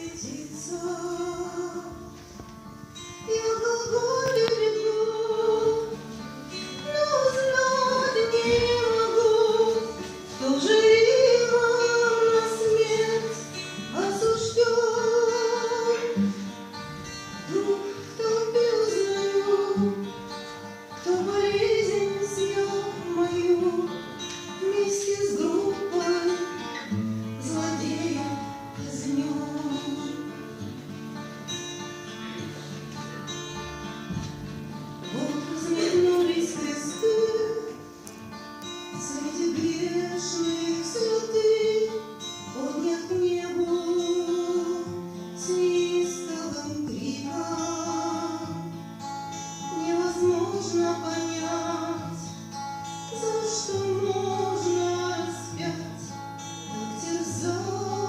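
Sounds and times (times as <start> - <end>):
woman singing: 0.0 - 31.0, 35.0 - 58.0
acoustic guitar: 0.0 - 58.0.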